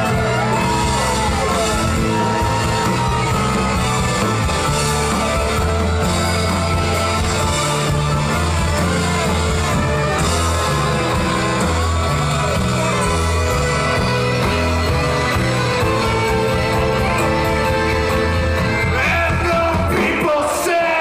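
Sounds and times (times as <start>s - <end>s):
bass line: 0.0s - 20.4s
live band playing: 0.0s - 21.0s.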